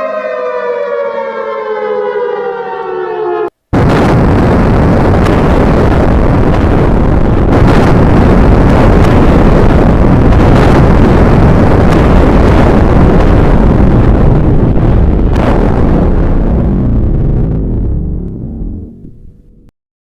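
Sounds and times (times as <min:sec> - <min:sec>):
low rumbling blast roar: 0:00.0 - 0:19.7.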